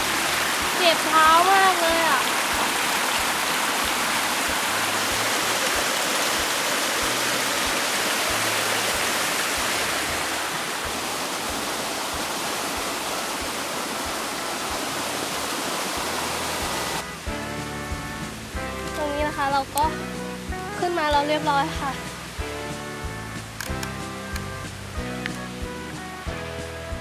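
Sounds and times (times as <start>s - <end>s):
stream rushing over rocks: 0.0s - 26.4s
background music: 0.0s - 27.0s.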